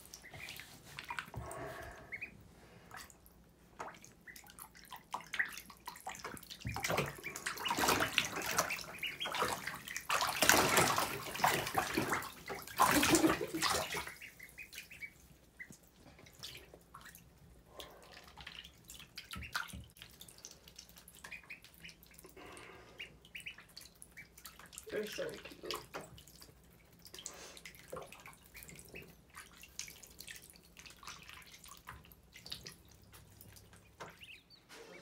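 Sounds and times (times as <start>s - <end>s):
ducklings splashing in water: 0.0s - 35.0s.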